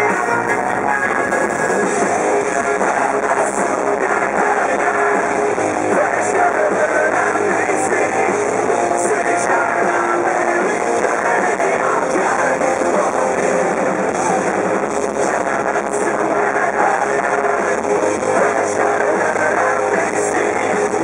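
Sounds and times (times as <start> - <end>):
punk rock band playing live: 0.0 - 21.0.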